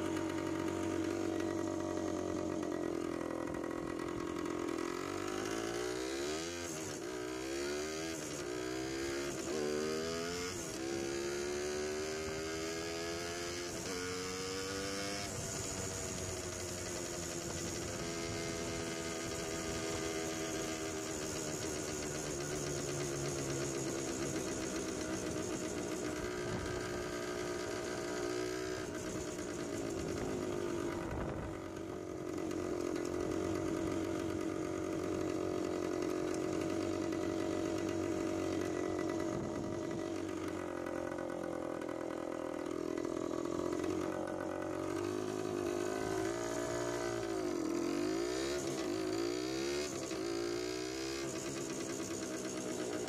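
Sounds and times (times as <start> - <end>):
two-stroke motorcycle engine: 0.0 - 53.0.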